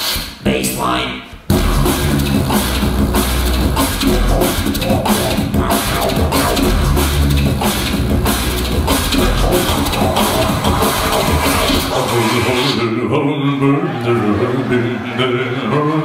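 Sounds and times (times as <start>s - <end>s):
beatboxed drum and bass: 0.0s - 13.0s.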